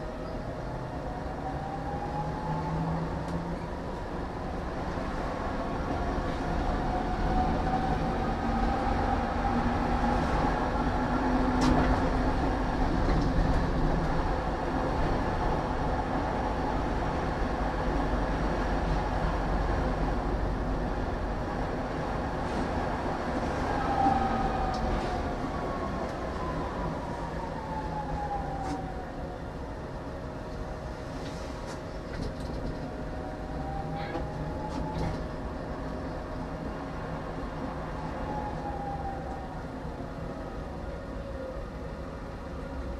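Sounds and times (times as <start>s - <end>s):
tram rumbling on rails: 0.0s - 42.9s.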